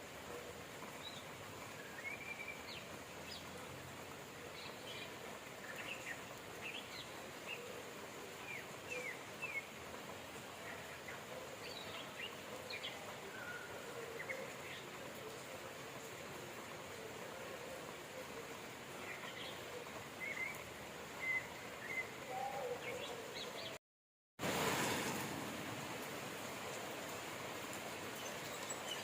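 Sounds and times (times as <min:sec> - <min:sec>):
songbirds chirping: 0:00.0 - 0:23.8, 0:25.8 - 0:29.0
steady rain: 0:00.0 - 0:23.8, 0:24.4 - 0:29.0.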